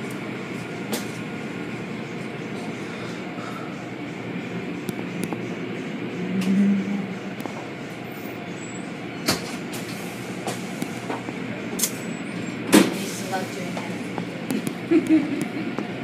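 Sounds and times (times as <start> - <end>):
rumbling mechanical noise: 0.0 - 16.0.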